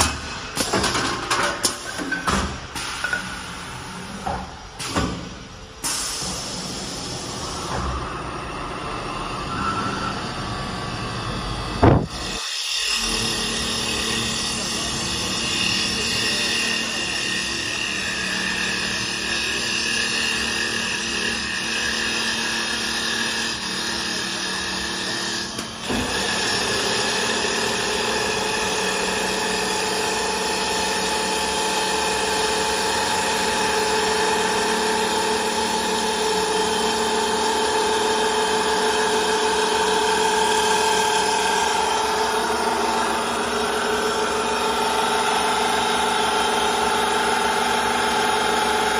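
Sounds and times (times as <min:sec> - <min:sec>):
lathe motors whining: 0:06.8 - 0:48.9.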